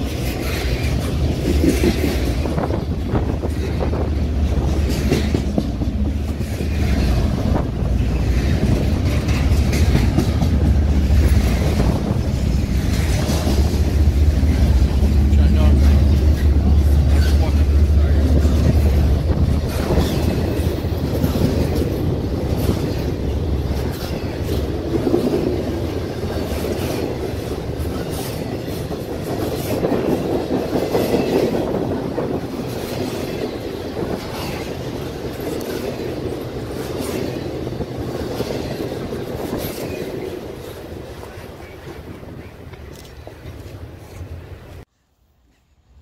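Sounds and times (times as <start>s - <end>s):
wheels clacking over rail joints: 0.0s - 44.9s
freight train rumbling: 0.0s - 46.0s.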